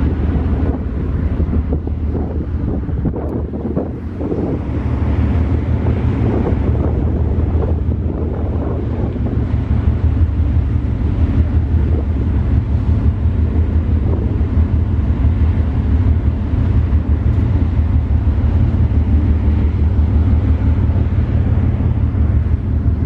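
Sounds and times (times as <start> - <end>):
ferry engines rumbling: 0.0 - 23.0
wind buffeting microphone: 0.0 - 23.0.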